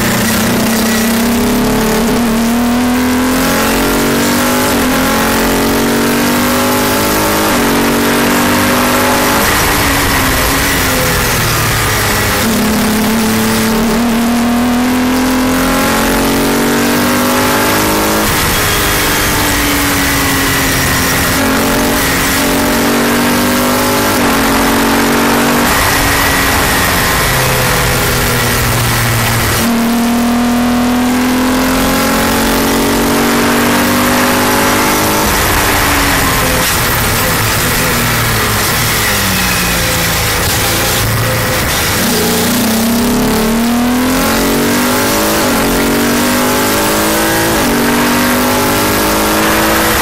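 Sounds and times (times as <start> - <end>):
race car engine: 0.0 - 50.0.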